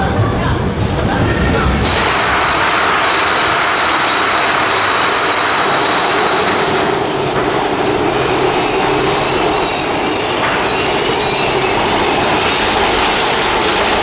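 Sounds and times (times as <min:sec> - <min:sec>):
roller coaster wheels rumbling: 0:00.0 - 0:14.0
wheel squeal: 0:01.9 - 0:14.0.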